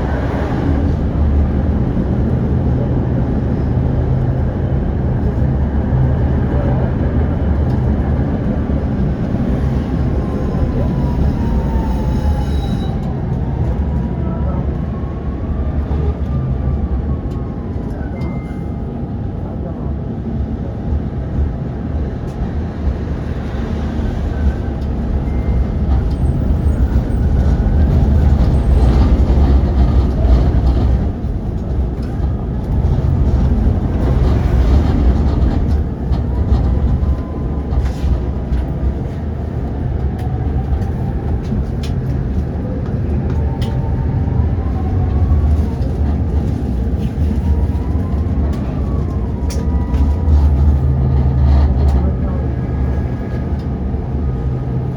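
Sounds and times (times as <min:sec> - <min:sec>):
tram rumbling on rails: 0:00.0 - 0:54.9.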